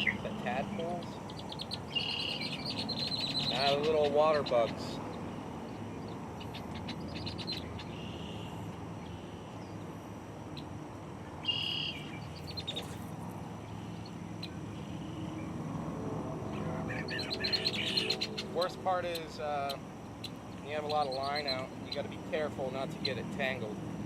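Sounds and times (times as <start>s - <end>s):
birds chirping: 0.0s - 15.7s, 16.4s - 23.8s.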